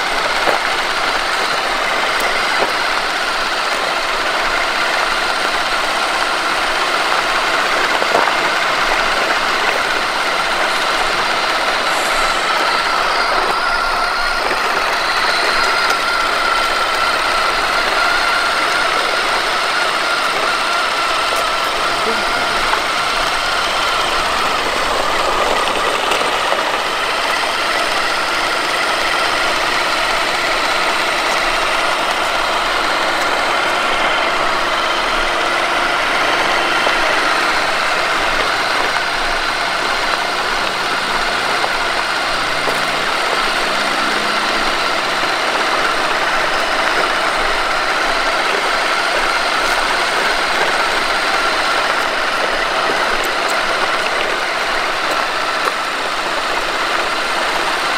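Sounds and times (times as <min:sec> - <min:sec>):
electric motor and gearbox whining: 0:00.0 - 0:57.9
wheels rolling on pavement: 0:00.0 - 0:57.9.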